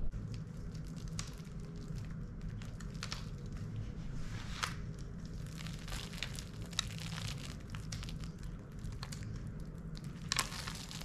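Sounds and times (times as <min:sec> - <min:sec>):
seeds rustling and clicking: 0:00.2 - 0:03.8, 0:04.5 - 0:11.0.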